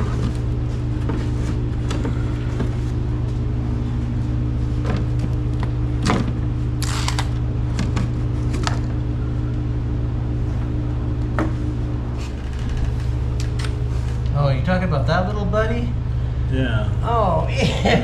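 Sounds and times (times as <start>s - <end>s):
refrigerator humming: 0.0s - 18.0s.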